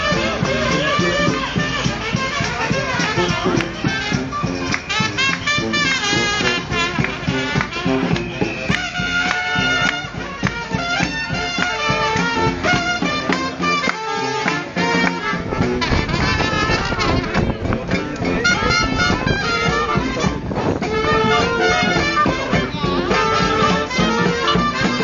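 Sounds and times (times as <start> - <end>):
brass band playing: 0.0 - 25.0
crowd voices: 0.0 - 25.0.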